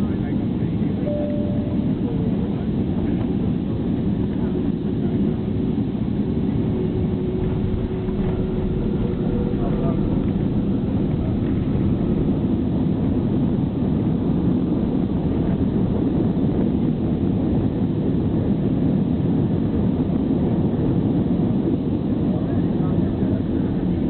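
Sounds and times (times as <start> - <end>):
jet airliner cabin rumble: 0.0 - 24.0.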